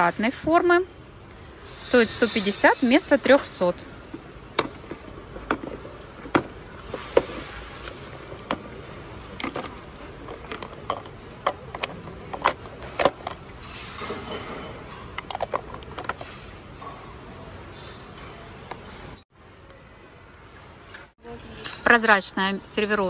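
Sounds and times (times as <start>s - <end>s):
shop noise: 0.0s - 23.0s.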